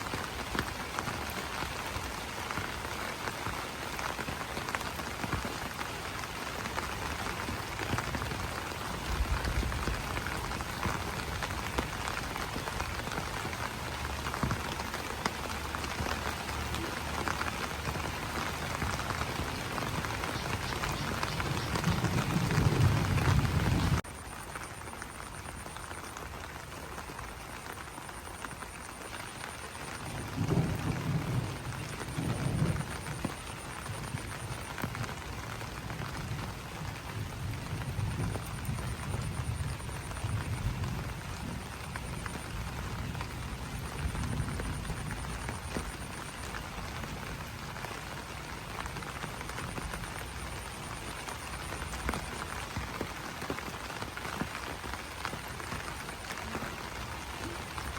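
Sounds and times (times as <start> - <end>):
rain pattering on leaves: 0.0 - 57.9.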